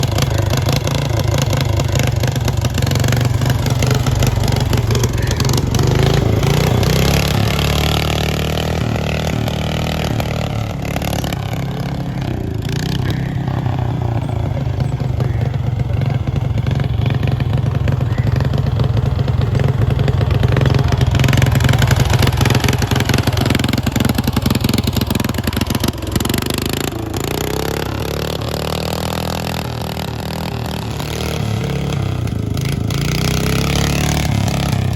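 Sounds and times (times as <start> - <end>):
lawn mower engine under load: 0.0 - 34.9.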